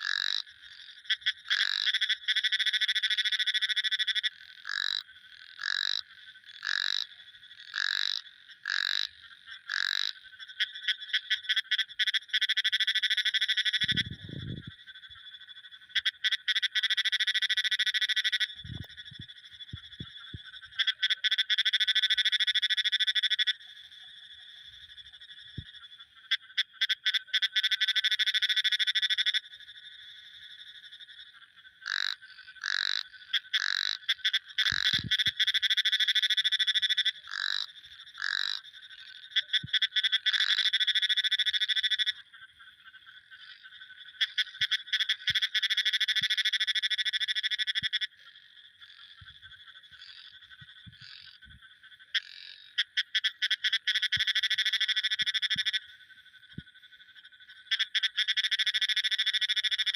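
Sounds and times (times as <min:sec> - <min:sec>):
frogs calling: 0:00.0 - 0:59.9.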